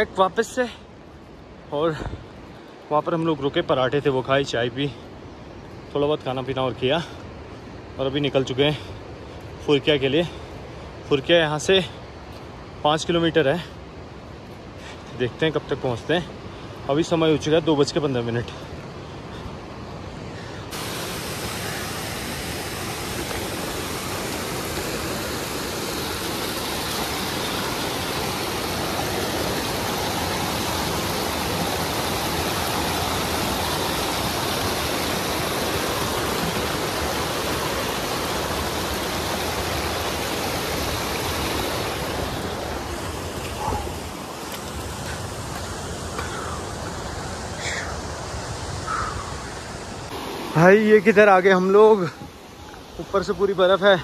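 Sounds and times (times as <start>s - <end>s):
rushing mountain water: 0.0s - 54.0s.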